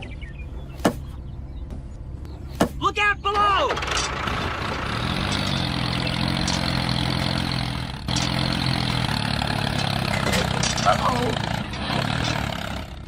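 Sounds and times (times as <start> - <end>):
tractor engine running: 0.2 - 13.0.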